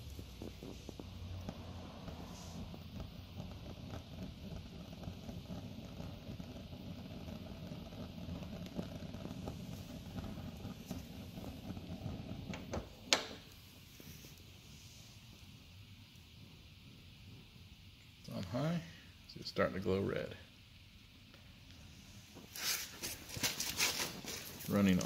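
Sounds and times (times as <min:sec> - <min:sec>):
propane heater running: 0:00.0 - 0:25.0.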